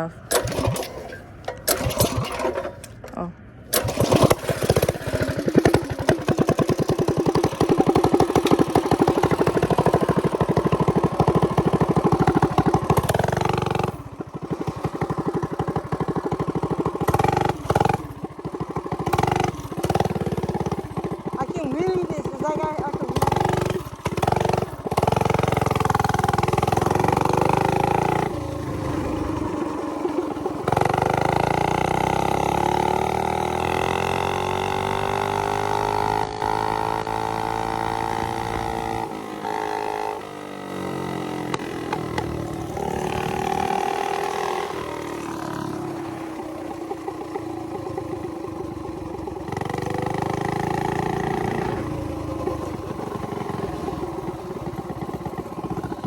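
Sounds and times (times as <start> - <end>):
mini bike engine revving: 0.0 - 56.0.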